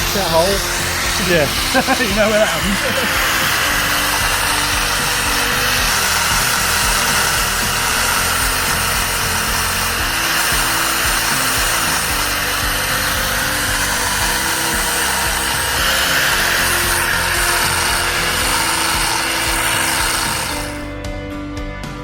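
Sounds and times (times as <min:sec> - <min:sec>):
power tool running: 0:00.0 - 0:21.1
background music: 0:00.0 - 0:22.0.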